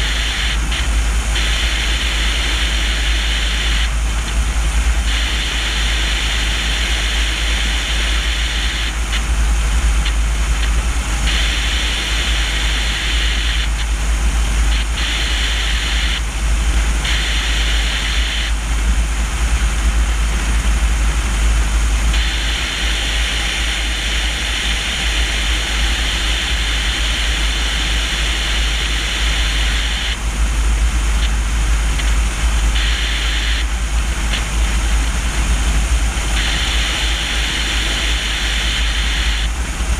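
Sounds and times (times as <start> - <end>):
high airflow hiss: 0.0 - 39.9
low wind rumble: 0.0 - 39.9.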